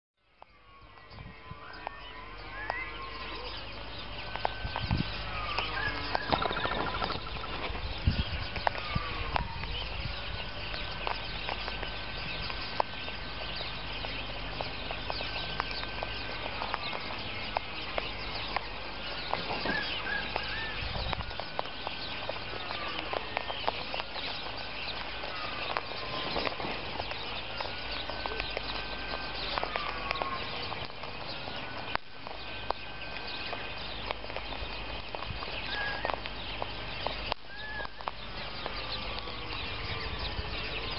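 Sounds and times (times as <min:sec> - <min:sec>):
low wind rumble: 0:00.3 - 0:40.9
whistled bird calls: 0:00.3 - 0:40.9.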